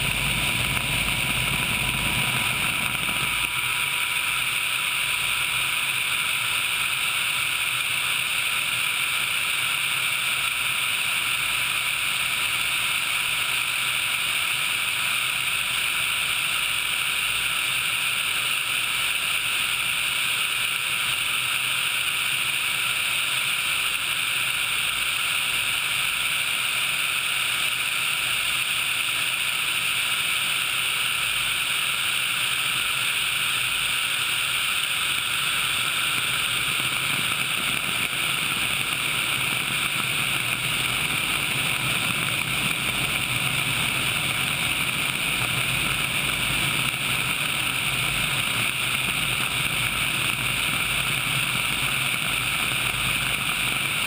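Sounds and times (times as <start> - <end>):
helicopter airflow and engine noise: 0.0 - 54.0.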